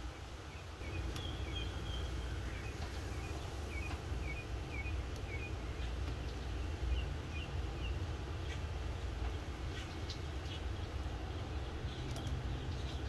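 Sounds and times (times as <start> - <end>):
small bird chirping: 0.5 - 13.0.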